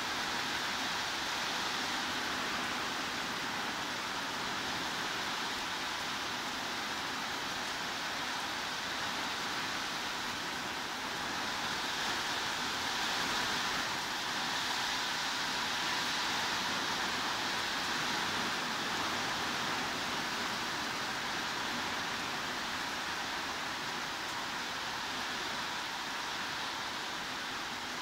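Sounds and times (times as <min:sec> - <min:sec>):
heavy rain hiss: 0:00.0 - 0:28.0.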